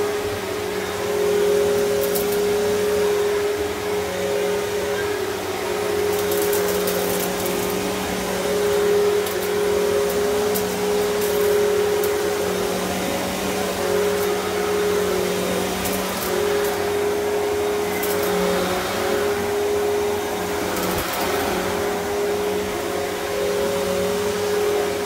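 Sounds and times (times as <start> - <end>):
vacuum cleaner running on carpet: 0.0 - 25.0.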